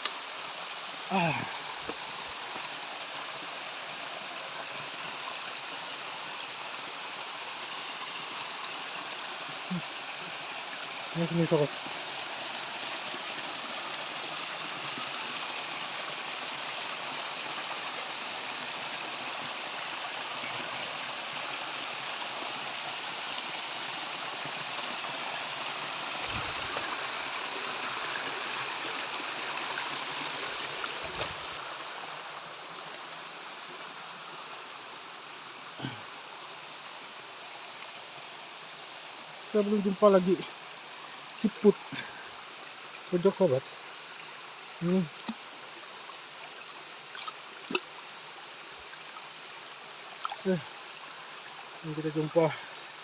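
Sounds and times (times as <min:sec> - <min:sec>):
stream water over rocks: 0:00.0 - 0:53.0.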